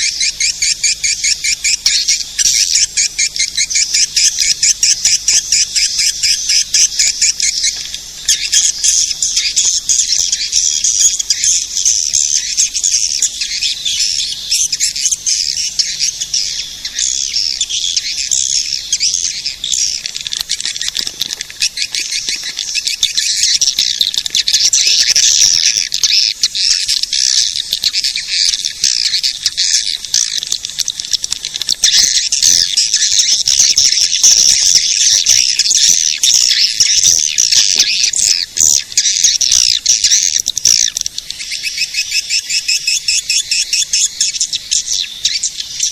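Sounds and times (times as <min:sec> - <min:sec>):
swiftlets twittering from speakers: 0:00.0 - 0:45.9.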